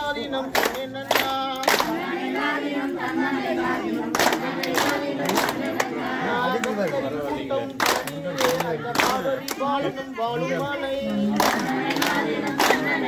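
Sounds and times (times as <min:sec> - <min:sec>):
hand claps: 0:00.0 - 0:09.9, 0:11.1 - 0:13.0
women singing together unaccompanied: 0:00.0 - 0:13.0.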